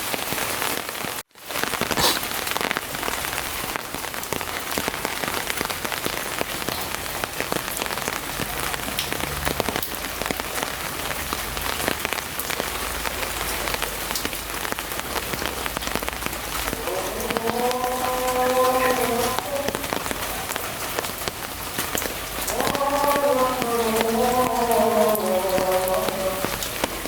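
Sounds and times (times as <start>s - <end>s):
heavy rain falling: 0.0s - 27.0s
raindrops striking hard surface: 0.0s - 27.0s.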